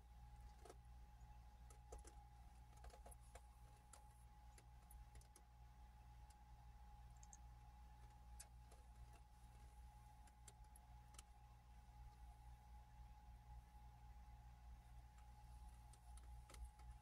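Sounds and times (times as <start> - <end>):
steady low hum: 0.0 - 17.0
thin steady whine: 0.0 - 17.0.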